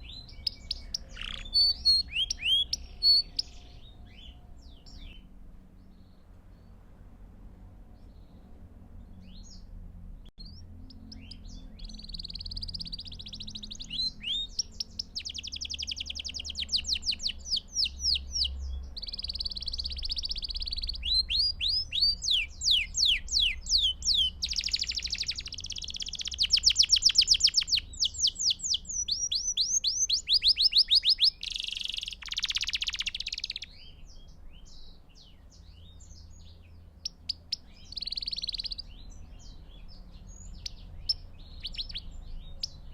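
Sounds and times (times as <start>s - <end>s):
canary singing trills: 0.0s - 6.8s, 8.0s - 9.7s, 10.4s - 42.9s.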